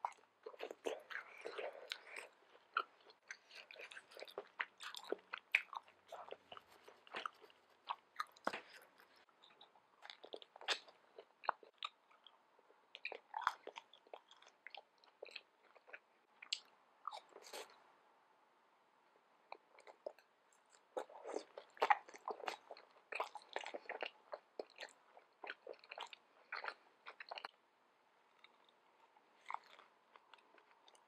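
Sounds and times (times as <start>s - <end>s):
person chewing food: 0.0s - 17.8s, 19.5s - 27.6s, 28.2s - 31.0s.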